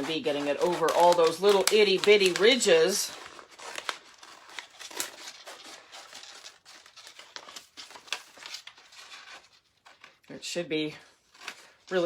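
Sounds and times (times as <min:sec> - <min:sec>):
transfer sheet crinkling: 0:00.0 - 0:10.3.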